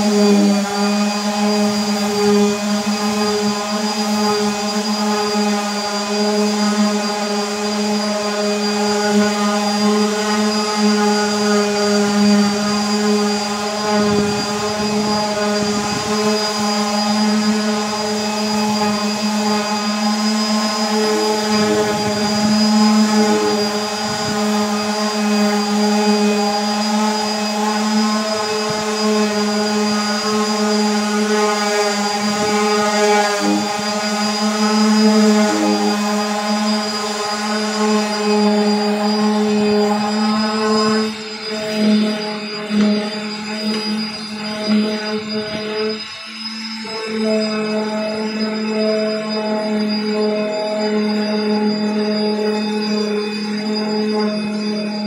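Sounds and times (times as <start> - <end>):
sander pad scuffing wood: 0.0 - 45.9
palm sander whining: 0.0 - 55.0.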